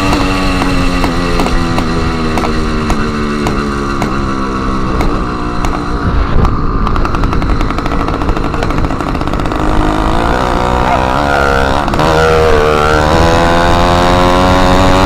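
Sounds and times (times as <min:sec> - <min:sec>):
exhaust popping and crackling: 0:00.0 - 0:15.0
small motorbike engine running loud: 0:00.0 - 0:15.0.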